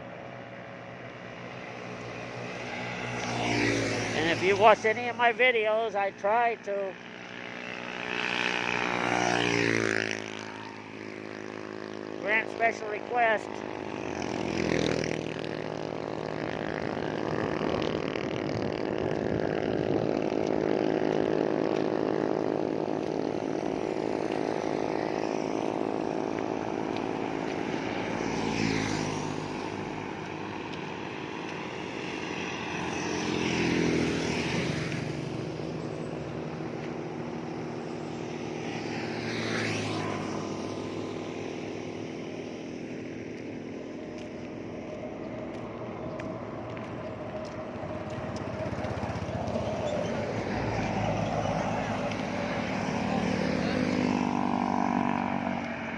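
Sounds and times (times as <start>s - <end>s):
road traffic drone: 0.0s - 55.9s
vehicles passing close by: 0.0s - 55.9s.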